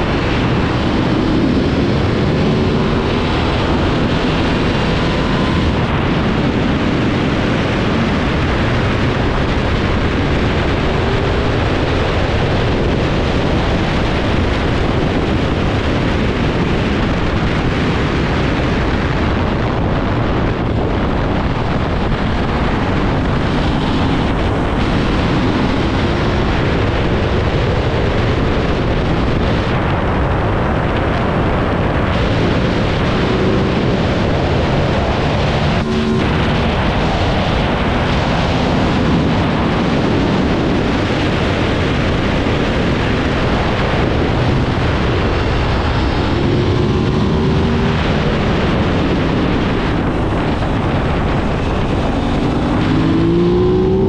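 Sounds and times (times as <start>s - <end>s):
motorcycle engine: 0.0s - 39.3s, 43.4s - 54.0s
wind rush on microphone: 0.0s - 54.0s.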